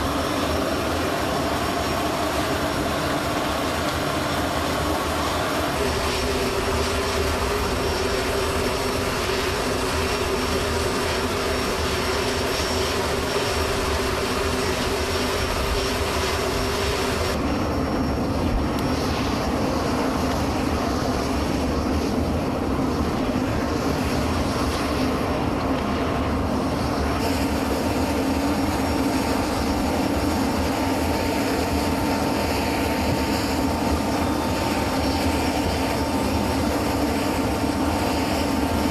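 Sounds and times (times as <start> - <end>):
aircraft engine noise: 0.0 - 38.9.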